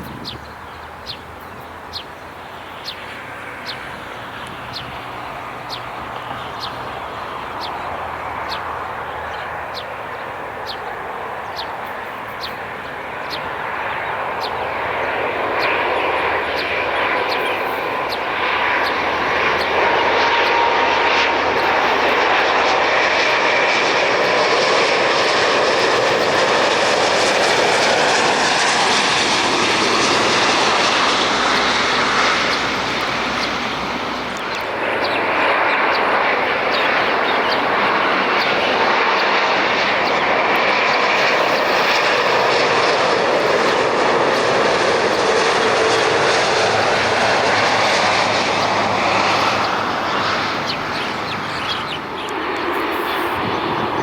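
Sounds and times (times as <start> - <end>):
jet airliner engines roaring: 0.0 - 54.0.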